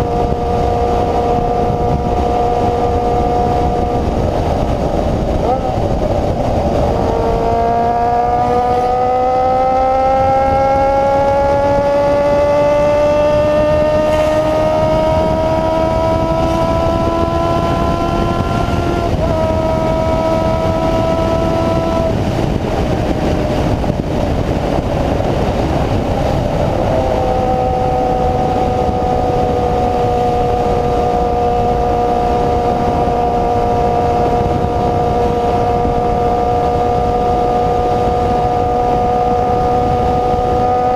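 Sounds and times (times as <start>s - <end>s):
motorcycle engine: 0.0s - 40.9s
rushing noise: 0.0s - 40.9s.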